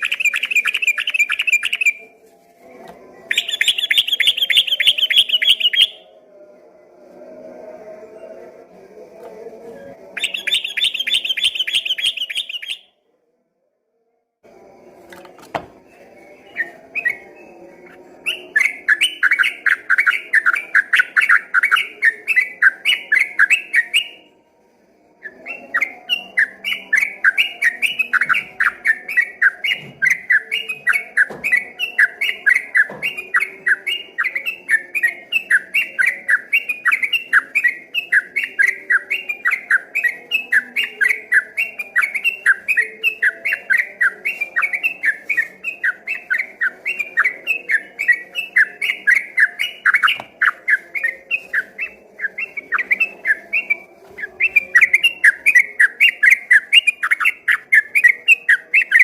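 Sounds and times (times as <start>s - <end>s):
bird singing rapid chirps: 0.0s - 2.0s, 3.3s - 6.1s, 10.2s - 12.9s, 16.2s - 24.2s, 25.3s - 59.0s.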